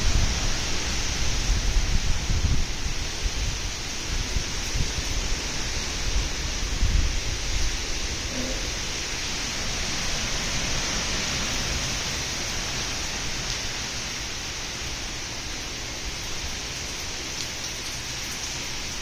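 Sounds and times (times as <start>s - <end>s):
heavy rain falling: 0.0s - 19.0s
wind: 0.0s - 19.0s.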